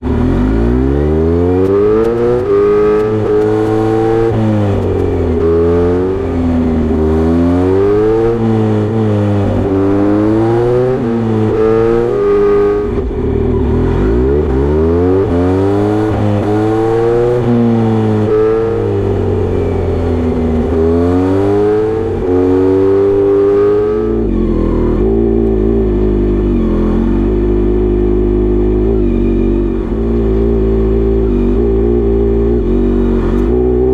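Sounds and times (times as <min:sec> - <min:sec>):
motorcycle engine revving and idling: 0:00.0 - 0:33.9.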